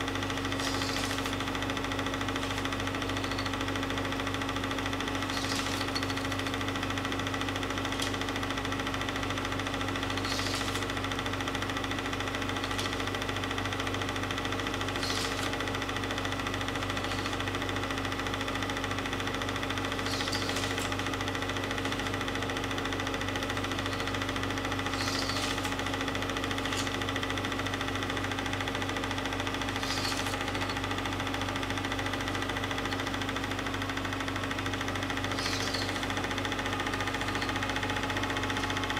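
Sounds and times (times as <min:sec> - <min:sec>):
film projector humming and whirring: 0:00.0 - 0:38.9.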